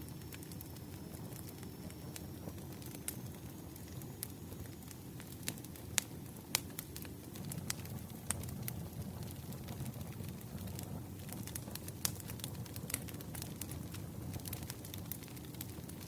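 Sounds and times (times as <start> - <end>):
low rumble of fire: 0.0 - 16.0
wood fire crackling: 0.0 - 16.0.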